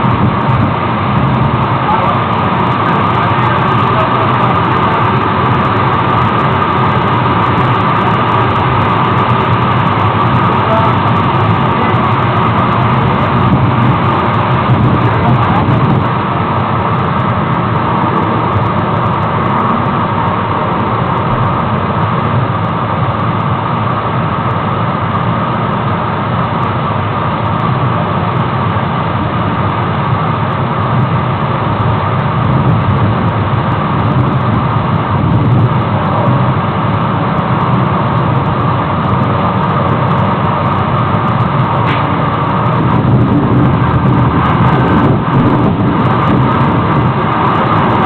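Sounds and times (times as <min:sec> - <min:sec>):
waterfall roar: 0:00.0 - 0:48.0.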